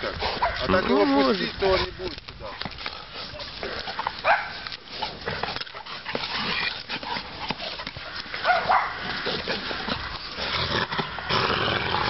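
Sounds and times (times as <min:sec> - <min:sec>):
dogs scuffling: 0:00.0 - 0:11.2.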